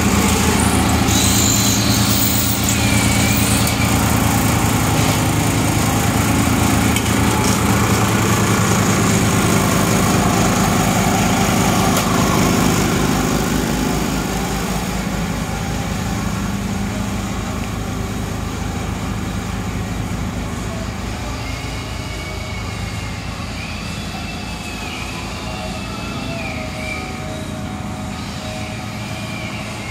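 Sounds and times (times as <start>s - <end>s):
small engine running: 0.0s - 29.9s.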